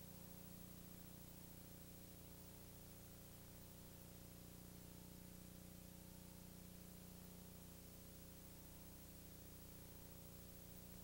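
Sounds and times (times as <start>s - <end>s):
faint low hum with hiss: 0.0s - 11.0s.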